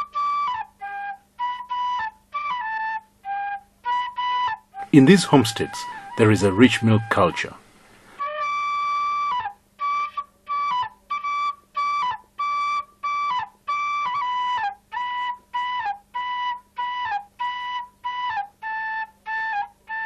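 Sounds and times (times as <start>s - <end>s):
slow solo flute melody: 0.0s - 7.6s, 8.2s - 20.0s.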